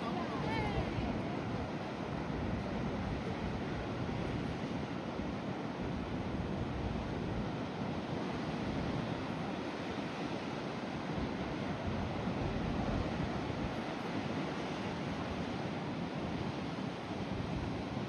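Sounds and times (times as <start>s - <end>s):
sea waves on shore: 0.0s - 18.0s.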